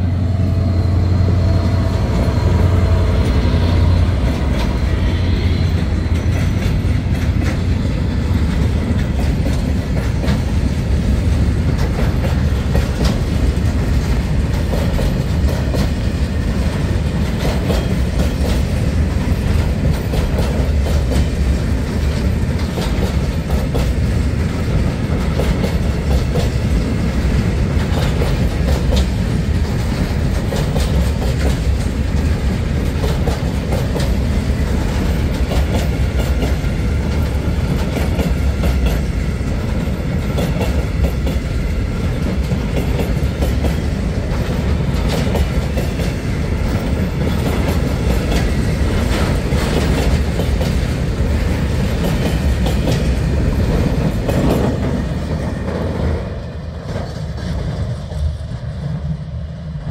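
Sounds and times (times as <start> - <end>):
freight train rumbling: 0.0 - 59.9
wheels clicking over rail joints: 1.8 - 58.6.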